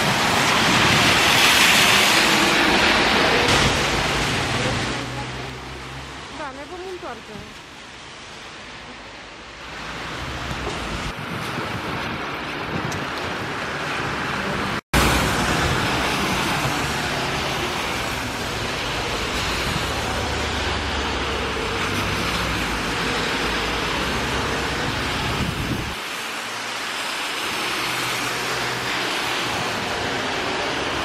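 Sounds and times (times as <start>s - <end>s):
cars driving on wet road: 0.0s - 31.0s.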